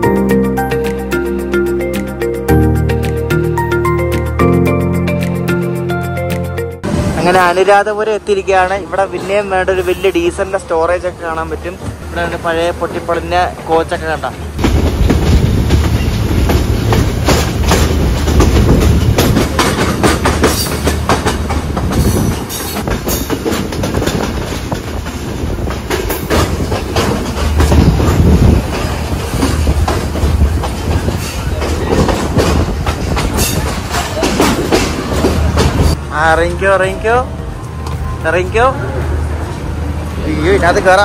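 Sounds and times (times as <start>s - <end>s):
train rumbling on rails: 6.8s - 41.0s.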